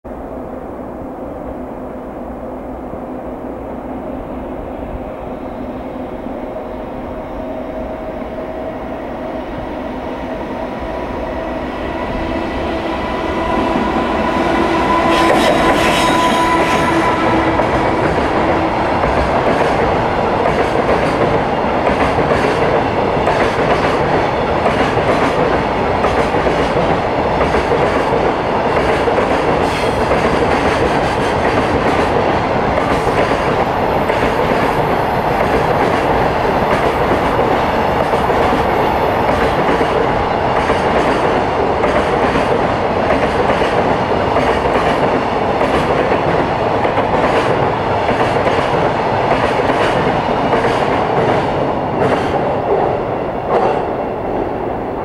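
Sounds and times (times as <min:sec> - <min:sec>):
train wheels rumbling on rail: 0:01.6 - 0:55.0.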